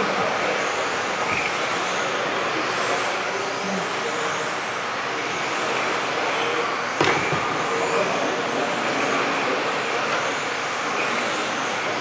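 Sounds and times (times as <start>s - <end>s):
model car motors whining: 0.0s - 12.0s.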